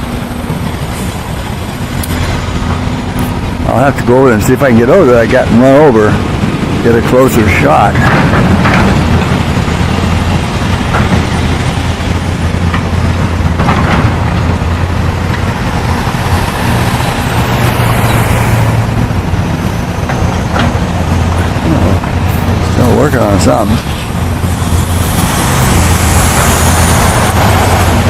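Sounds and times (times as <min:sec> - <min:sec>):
car engine hum: 0:00.0 - 0:28.0
road noise: 0:00.0 - 0:28.0.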